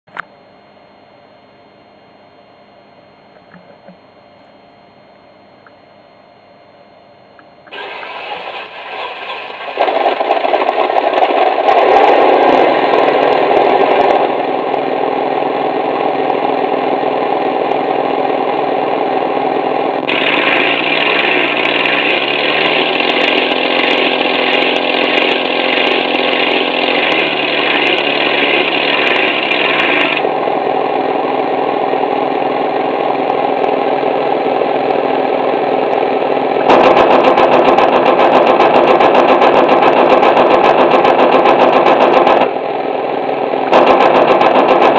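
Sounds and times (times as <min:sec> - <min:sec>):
electronic engine sound: 0:00.1 - 0:06.4, 0:07.3 - 0:44.9.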